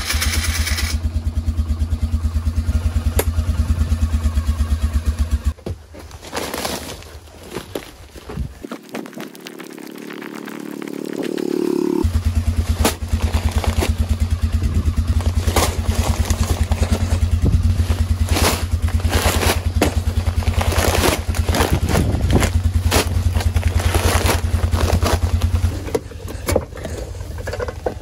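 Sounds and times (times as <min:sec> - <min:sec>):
engine cranking and idling: 0:00.0 - 0:06.2, 0:07.0 - 0:28.0.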